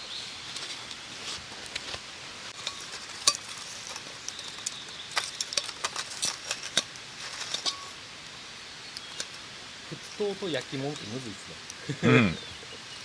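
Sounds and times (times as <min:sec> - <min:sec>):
faint steady hiss: 0:00.0 - 0:13.0
wood fire crackling: 0:00.0 - 0:13.0
fire pops: 0:00.5 - 0:11.9.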